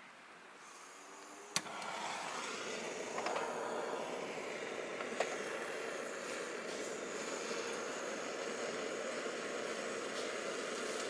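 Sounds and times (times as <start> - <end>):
gas flame hissing: 0.6 - 11.0
torch lighter igniting click: 1.2 - 11.0.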